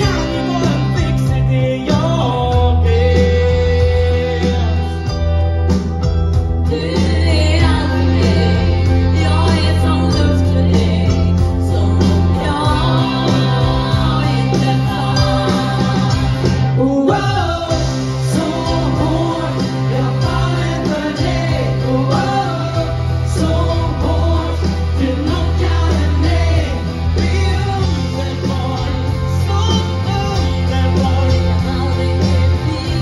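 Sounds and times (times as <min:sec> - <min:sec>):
person singing: 0:00.0 - 0:05.2, 0:06.6 - 0:33.0
bass line: 0:00.0 - 0:33.0
drums: 0:00.0 - 0:33.0
electric guitars: 0:00.0 - 0:33.0
keyboard: 0:00.0 - 0:33.0.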